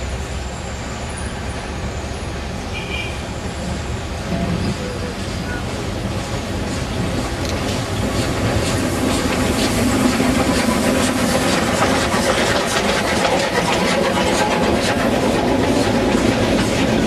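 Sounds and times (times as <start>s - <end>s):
steam locomotive passing: 0.0s - 17.0s
train wheels clattering on track: 0.0s - 17.0s.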